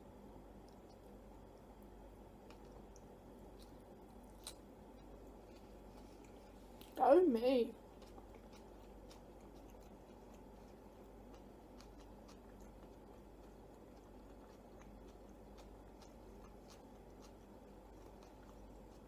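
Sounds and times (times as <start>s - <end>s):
person chewing: 2.4s - 7.0s, 7.8s - 19.0s.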